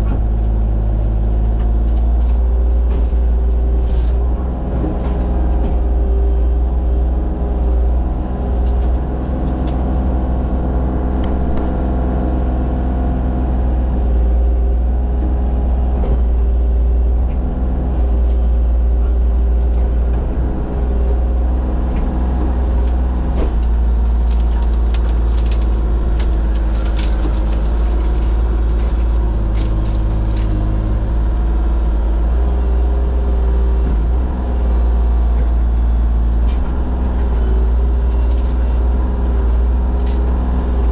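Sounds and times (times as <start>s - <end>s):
wood cracking: 0.0s - 6.6s, 8.2s - 12.6s, 14.1s - 40.9s
diesel engine under load: 0.0s - 40.9s.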